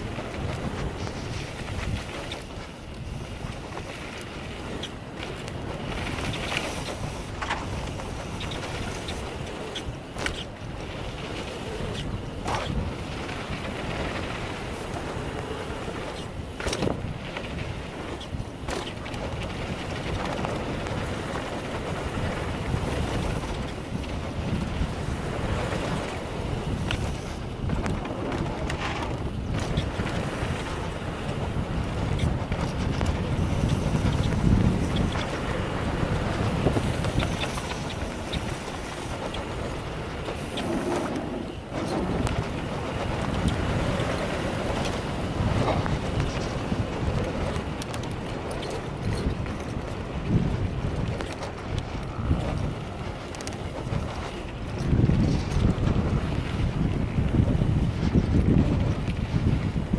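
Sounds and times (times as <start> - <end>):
bike tyres rumbling on dirt: 0.0 - 59.9
wind buffeting microphone: 0.0 - 59.9.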